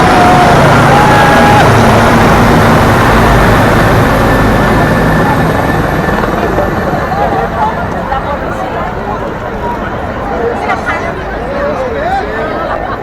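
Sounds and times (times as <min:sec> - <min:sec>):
loud engine rumble: 0:00.0 - 0:11.4.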